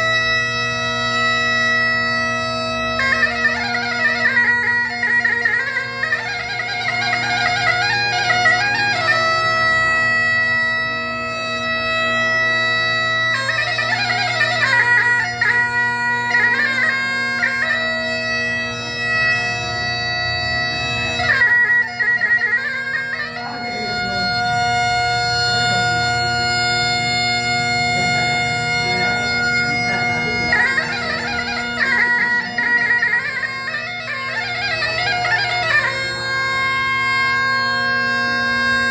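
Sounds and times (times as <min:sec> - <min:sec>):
bagpipe playing folk tune: 0:00.0 - 0:38.9.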